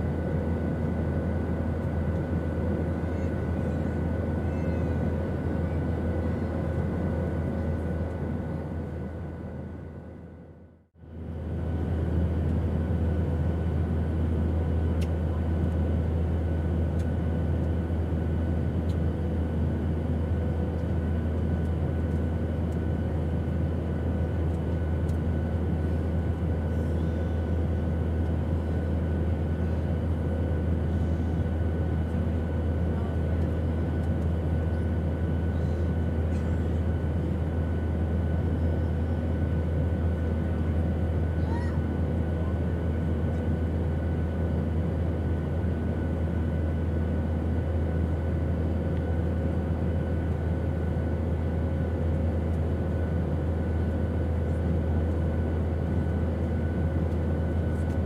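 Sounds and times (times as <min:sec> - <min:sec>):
airplane engine drone: 0:00.0 - 0:58.0.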